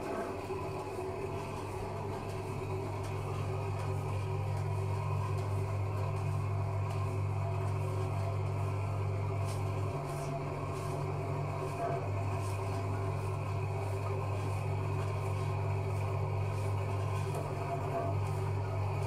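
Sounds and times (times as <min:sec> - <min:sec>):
dough mixer humming: 0:00.0 - 0:19.0.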